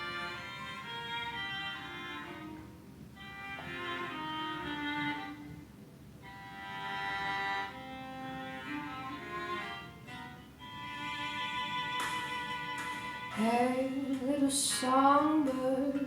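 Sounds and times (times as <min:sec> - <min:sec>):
violin playing slow melody: 0:00.0 - 0:14.4
lower bowed strings: 0:00.0 - 0:16.0.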